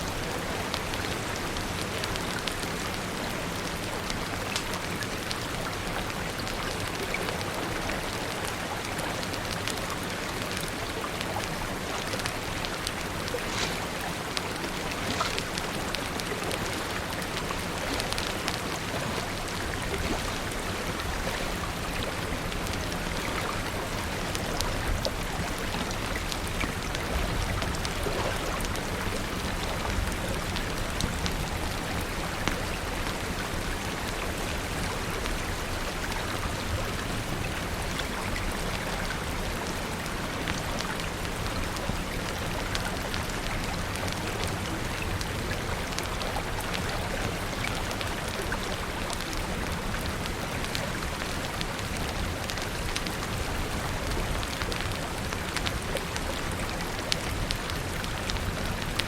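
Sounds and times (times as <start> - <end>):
steady rain hiss: 0.0 - 59.0
wood fire crackling: 0.1 - 59.0.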